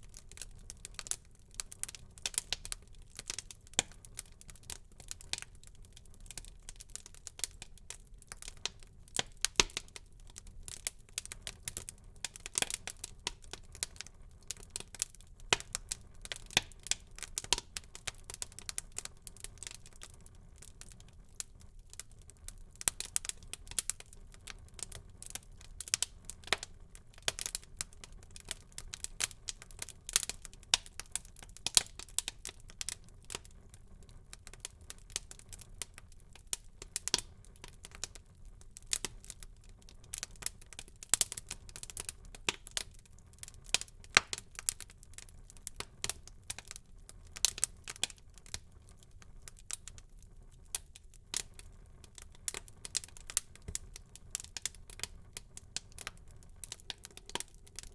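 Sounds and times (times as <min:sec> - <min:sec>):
low steady hiss: 0:00.0 - 0:57.9
wood fire crackling: 0:00.0 - 0:57.9.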